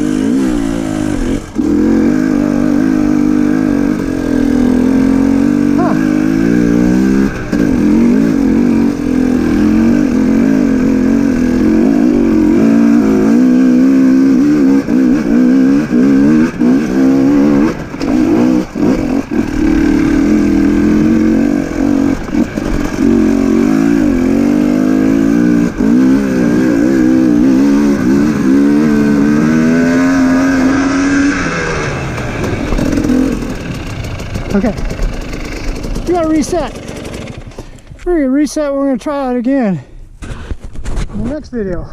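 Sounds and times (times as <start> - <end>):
dirt bike engine revving: 0.0 - 37.8.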